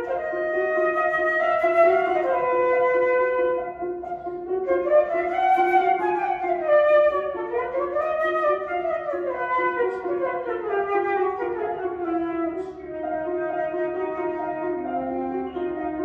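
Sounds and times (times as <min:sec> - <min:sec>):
flute melody: 0:00.0 - 0:16.0
piano accompaniment: 0:00.0 - 0:16.0.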